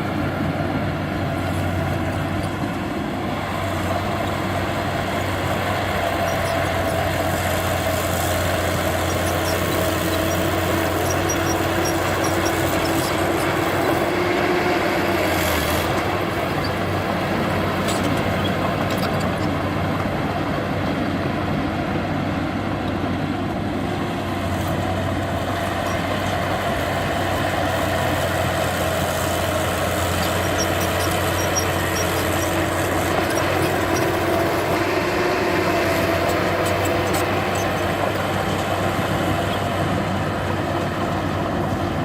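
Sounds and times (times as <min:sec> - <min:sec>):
diesel engine of heavy machinery: 0:00.0 - 0:42.0.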